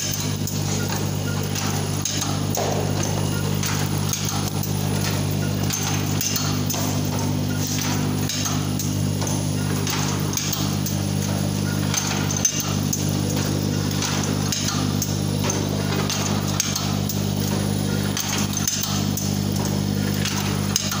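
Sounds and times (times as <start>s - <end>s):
machine mechanical hum: 0.0s - 21.0s.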